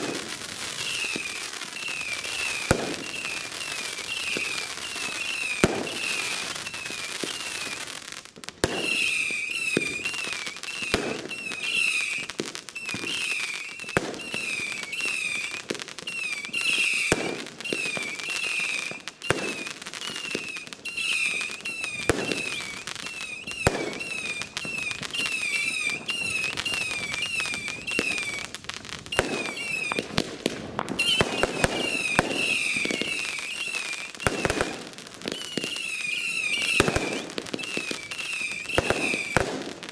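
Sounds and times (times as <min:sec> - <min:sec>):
firework bangs and crackle: 0:00.0 - 0:39.9
firework whistles: 0:00.0 - 0:39.9.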